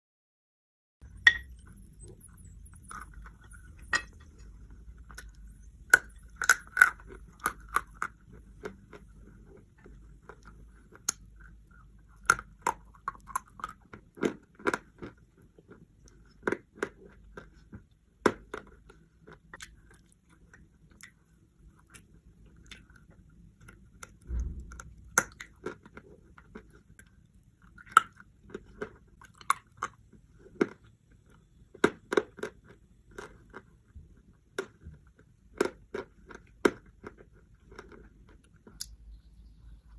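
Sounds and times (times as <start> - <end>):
faint low hum: 1.0 - 39.9.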